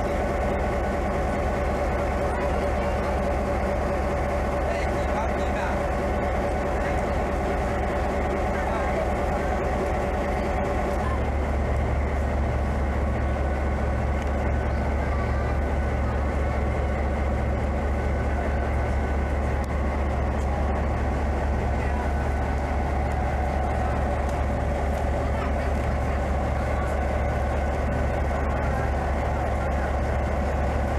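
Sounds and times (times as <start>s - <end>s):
train running: 0.0s - 30.9s.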